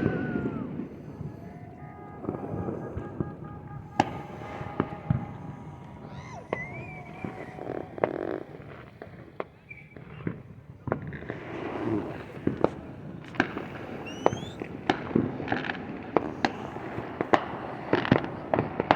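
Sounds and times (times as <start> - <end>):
rising firework whistle: 0.0 - 10.4, 11.2 - 18.9
fireworks bangs and pops: 0.0 - 18.9.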